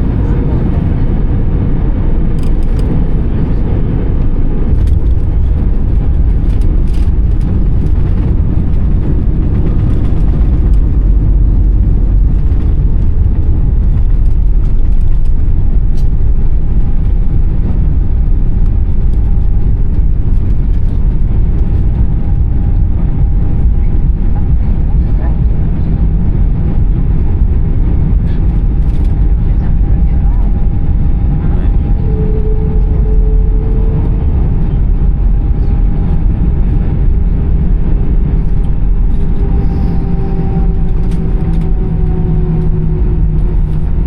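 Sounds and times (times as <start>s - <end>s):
airplane cabin engine rumble: 0.0s - 44.0s.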